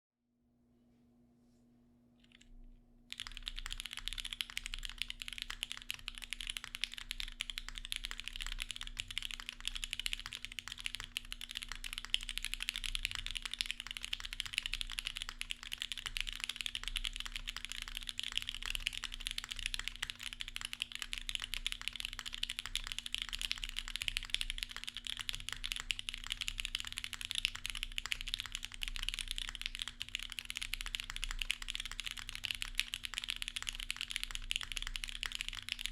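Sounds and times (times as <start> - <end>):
mechanical keyboard typing: 3.1 - 35.9.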